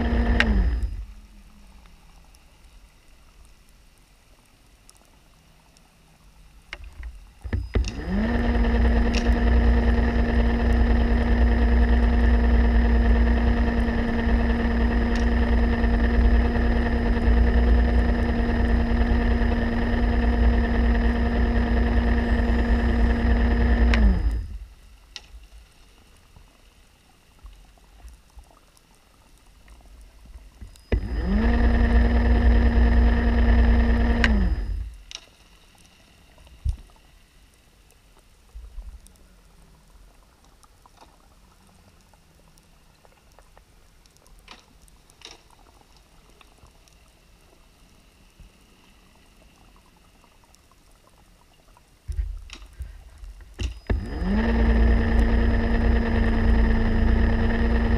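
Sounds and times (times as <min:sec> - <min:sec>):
underwater scooter motor whining: 0:00.0 - 0:02.5, 0:06.7 - 0:25.2, 0:27.2 - 0:35.2, 0:39.0 - 0:57.9.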